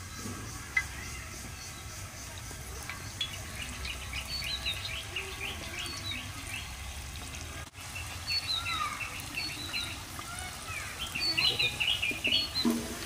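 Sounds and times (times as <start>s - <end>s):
batter frying in hot oil: 0.0s - 13.0s
small birds chirping: 0.0s - 13.0s.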